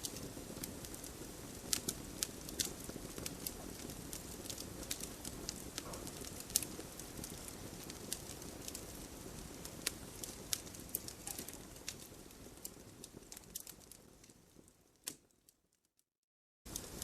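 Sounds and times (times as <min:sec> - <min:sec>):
campfire flames rushing: 0:00.0 - 0:15.2, 0:16.7 - 0:17.0
burning wood crackling and popping: 0:00.0 - 0:15.8, 0:16.7 - 0:17.0.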